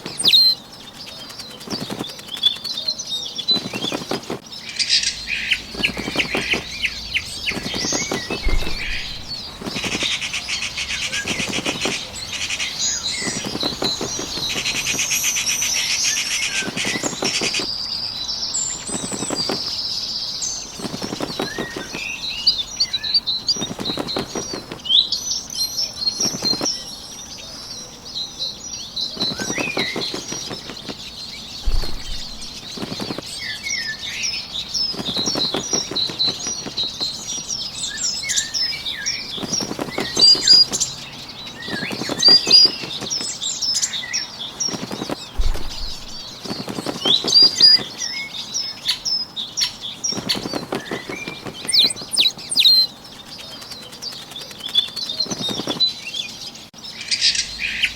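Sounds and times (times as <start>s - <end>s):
bird wings flapping: 0.0s - 25.4s, 26.0s - 26.9s, 29.0s - 49.0s, 49.6s - 56.3s
songbirds chirping and trilling: 0.0s - 57.9s.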